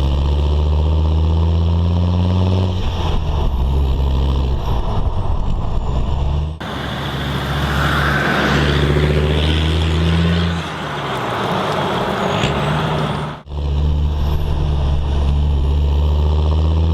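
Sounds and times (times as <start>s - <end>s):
diesel engine exhaust: 0.0s - 16.9s.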